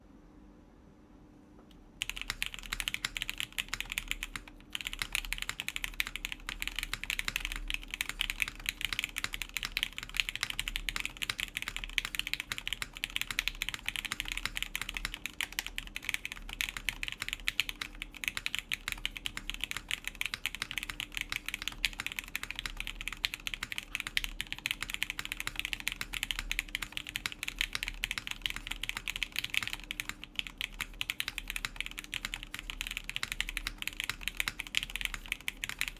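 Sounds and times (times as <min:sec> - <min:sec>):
fast mechanical keyboard typing: 0:02.0 - 0:35.9.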